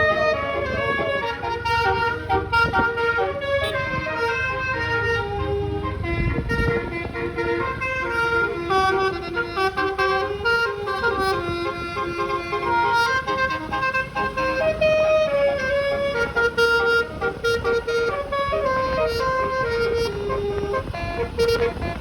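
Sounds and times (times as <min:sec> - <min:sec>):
bus horn playing melody: 0:00.0 - 0:22.0.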